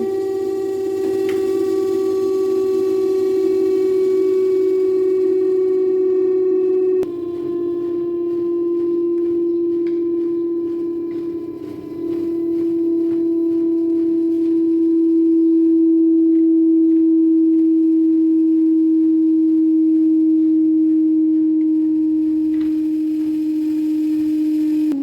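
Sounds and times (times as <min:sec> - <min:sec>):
washing machine spin whine: 0:00.0 - 0:25.0.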